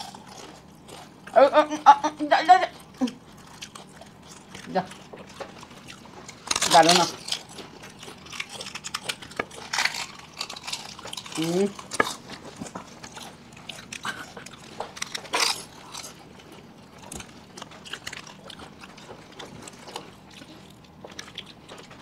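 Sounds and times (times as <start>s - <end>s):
people chewing crunchy food: 0.0s - 22.0s.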